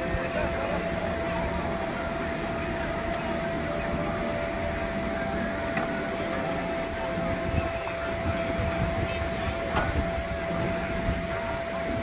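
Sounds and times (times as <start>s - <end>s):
electric air blower droning: 0.0s - 12.0s.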